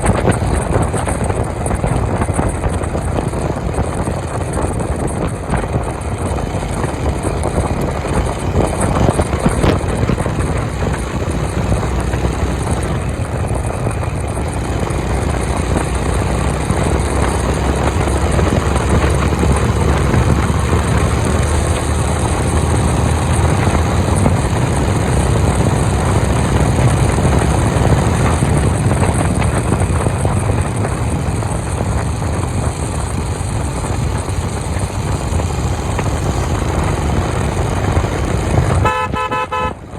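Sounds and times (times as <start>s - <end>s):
motorcycle engine cruising: 0.0s - 39.9s
rushing road and air noise: 0.0s - 39.9s.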